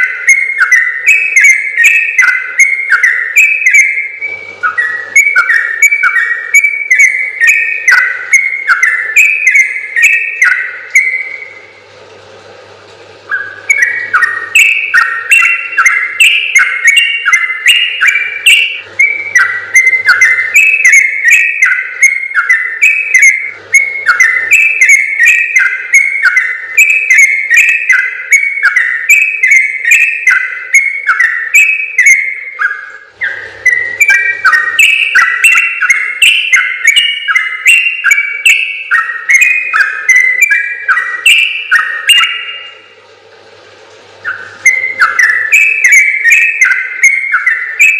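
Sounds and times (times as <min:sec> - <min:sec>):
bird singing whistled notes: 0:00.0 - 0:11.8, 0:13.2 - 0:43.0, 0:44.2 - 0:47.9.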